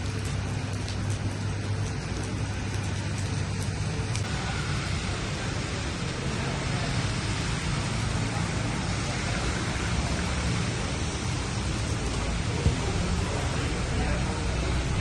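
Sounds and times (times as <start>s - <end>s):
low street traffic rumble: 0.0s - 15.0s
steady rain falling: 0.0s - 15.0s.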